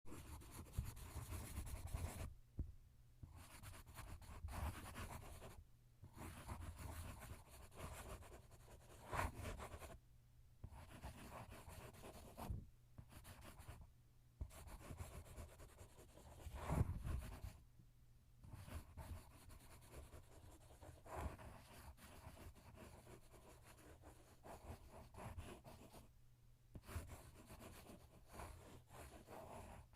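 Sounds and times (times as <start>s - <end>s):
pen writing on paper: 0.1s - 2.3s, 3.2s - 10.0s, 10.6s - 13.8s, 14.4s - 17.6s, 18.4s - 26.1s, 26.8s - 29.9s.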